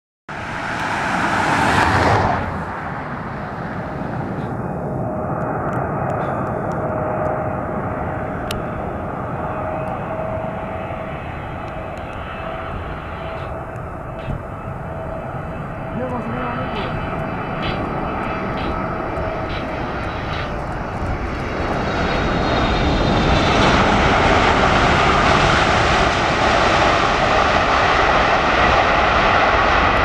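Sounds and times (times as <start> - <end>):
jet engines rumbling with whine: 0.3 - 30.0.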